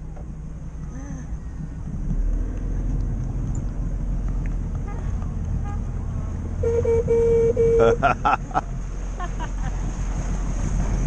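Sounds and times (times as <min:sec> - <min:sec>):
boat engine running: 0:00.0 - 0:11.0
water noise: 0:01.6 - 0:11.0.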